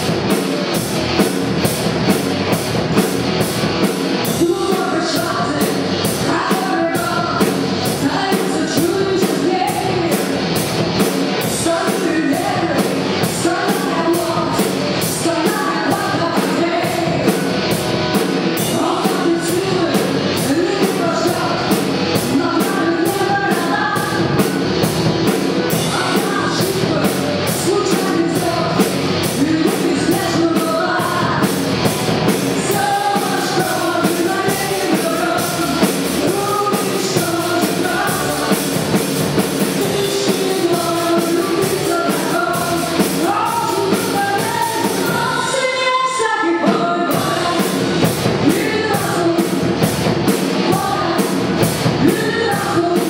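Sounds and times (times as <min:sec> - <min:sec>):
rock band playing live: 0:00.0 - 0:53.0
person singing into a microphone: 0:04.2 - 0:10.5, 0:11.4 - 0:17.4, 0:18.6 - 0:24.6, 0:25.7 - 0:31.6, 0:32.6 - 0:38.9, 0:39.6 - 0:53.0.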